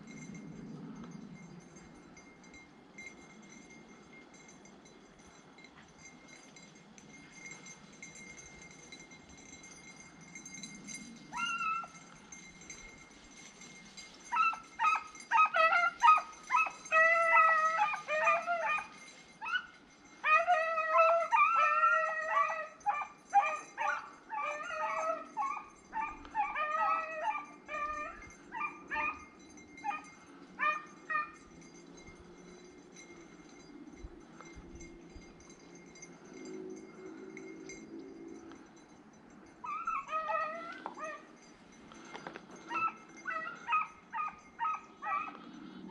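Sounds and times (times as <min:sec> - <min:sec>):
hounds baying and yipping: 0:05.3 - 0:45.9.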